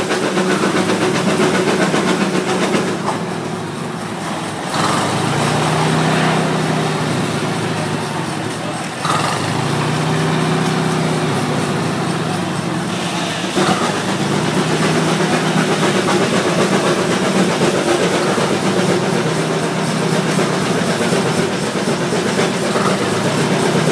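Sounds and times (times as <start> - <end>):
steam engine running sawmill: 0.0 - 23.9.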